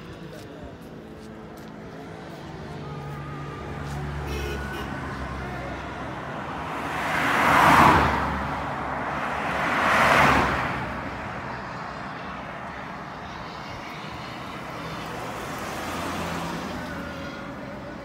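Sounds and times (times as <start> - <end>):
steady road noise: 0.0 - 18.0
vehicles passing by: 0.0 - 18.0.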